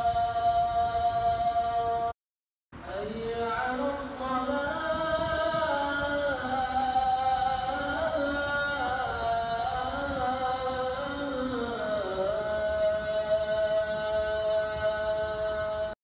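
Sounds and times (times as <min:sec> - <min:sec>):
person chanting melodically: 0:00.0 - 0:02.1, 0:02.8 - 0:16.0.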